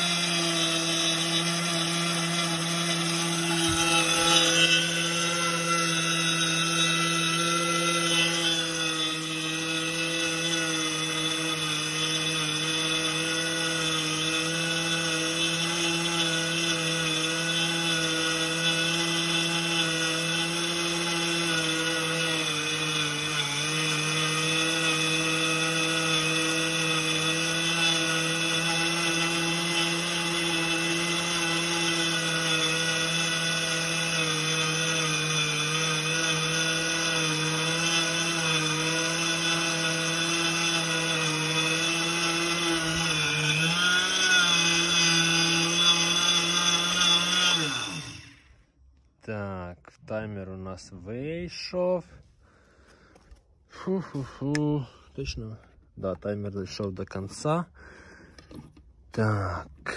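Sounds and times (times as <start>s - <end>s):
grain mill motor whine: 0.0s - 48.5s.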